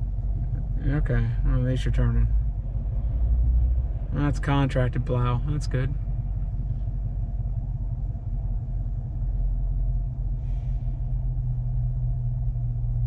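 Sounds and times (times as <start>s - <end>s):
pickup engine drone from inside: 0.0s - 13.0s.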